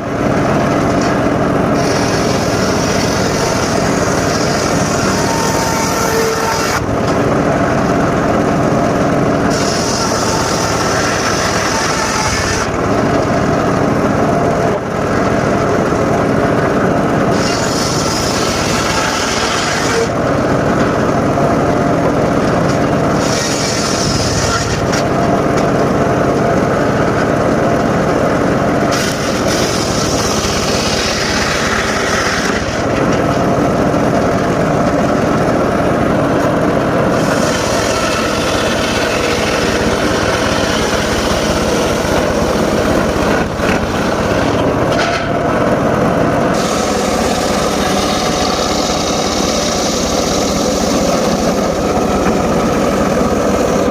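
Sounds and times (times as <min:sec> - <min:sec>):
circular saw cutting wood: 0:00.9 - 0:08.0, 0:08.7 - 0:16.0, 0:17.2 - 0:21.1, 0:22.0 - 0:25.8, 0:28.8 - 0:36.3, 0:37.0 - 0:45.4, 0:46.4 - 0:53.9.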